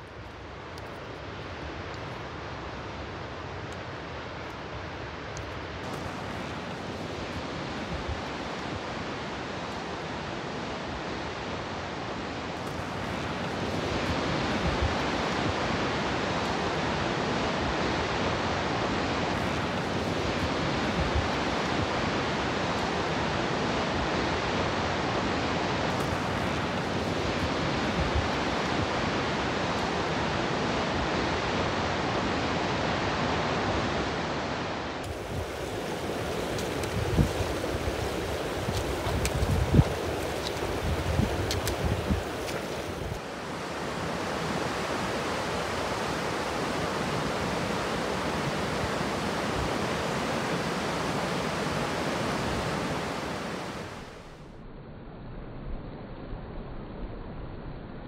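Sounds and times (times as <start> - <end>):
stream rushing over rocks: 0.0 - 54.4.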